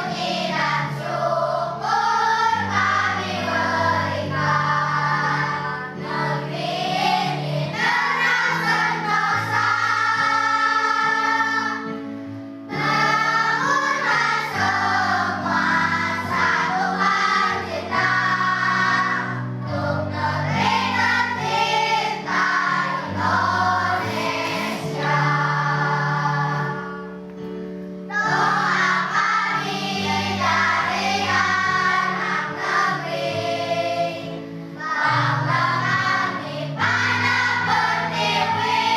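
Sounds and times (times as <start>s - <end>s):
children singing in chorus: 0.0s - 12.0s, 12.7s - 27.1s, 28.1s - 38.9s
instrumental accompaniment: 0.0s - 38.9s.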